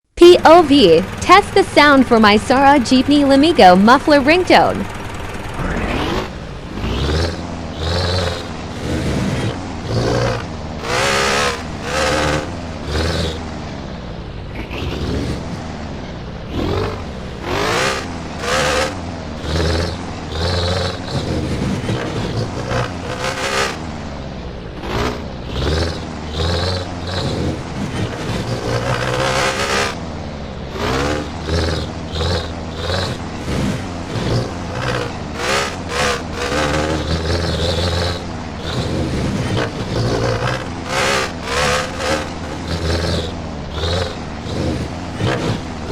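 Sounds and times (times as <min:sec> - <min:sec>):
diesel engine revving: 0:00.0 - 0:45.9.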